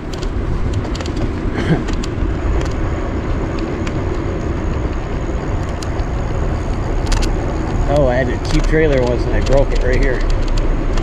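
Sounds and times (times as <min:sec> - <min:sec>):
bicycle tyre noise: 0:00.0 - 0:11.0
wind buffeting microphone: 0:00.0 - 0:11.0.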